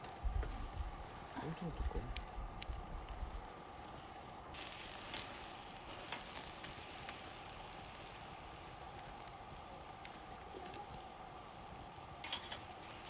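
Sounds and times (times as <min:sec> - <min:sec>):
small pops of frying: 0:00.0 - 0:01.1, 0:01.9 - 0:13.0
food sizzling in a pan: 0:00.0 - 0:13.0.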